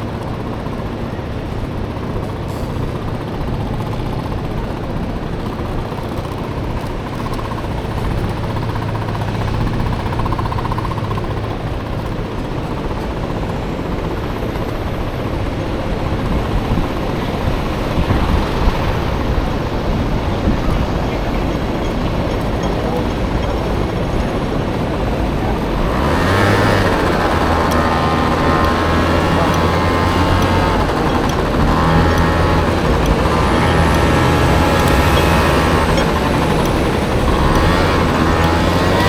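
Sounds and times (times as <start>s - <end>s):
road and wind noise: 0.0s - 39.0s
scooter engine running: 0.0s - 39.0s.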